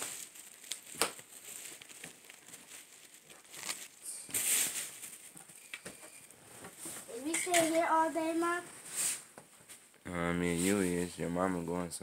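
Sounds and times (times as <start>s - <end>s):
packaging rustling and crinkling: 0.0s - 9.9s.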